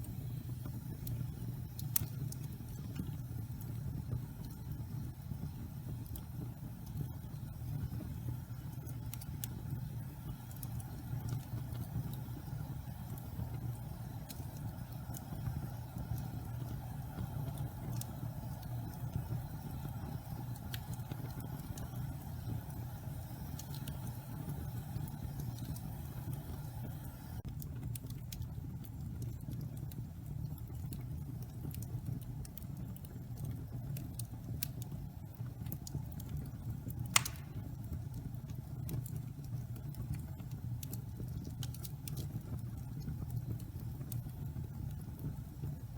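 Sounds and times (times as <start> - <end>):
fire crackles and pops: 0.0 - 45.9
low rumble of flames: 0.0 - 45.9.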